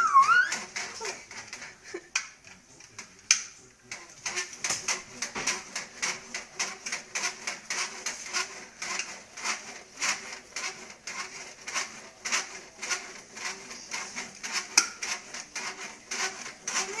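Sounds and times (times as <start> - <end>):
baby jumper creaking and clicking: 0.0 - 17.0.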